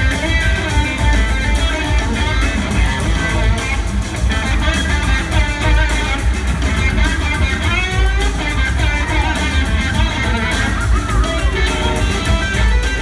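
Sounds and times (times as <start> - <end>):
electric guitar lead gliding notes: 0.0 - 13.0
heavy bass: 0.0 - 13.0
live rock band jamming: 0.0 - 13.0.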